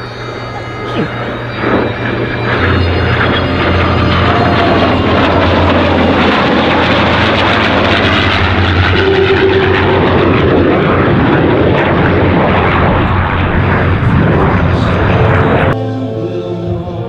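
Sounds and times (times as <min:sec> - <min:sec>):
aircraft engine flying past: 0:00.0 - 0:17.0.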